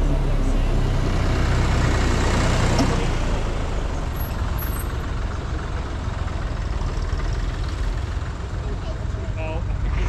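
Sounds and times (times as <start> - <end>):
tractor engines running: 0.0 - 10.0.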